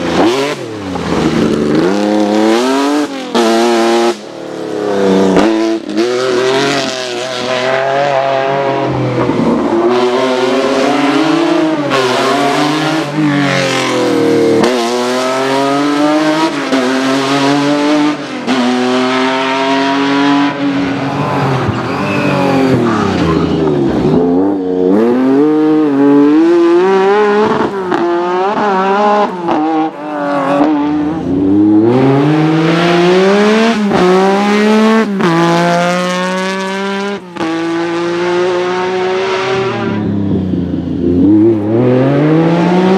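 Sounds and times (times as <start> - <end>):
rally car engine revving: 0.0 - 42.9.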